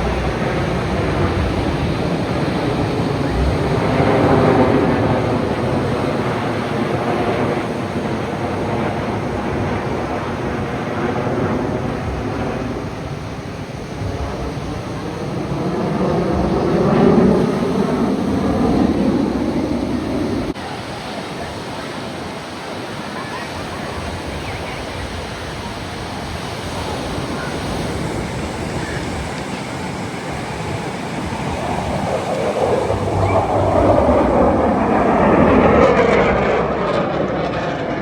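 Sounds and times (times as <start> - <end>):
aircraft passing: 0.0 - 38.0
wind: 0.0 - 38.0.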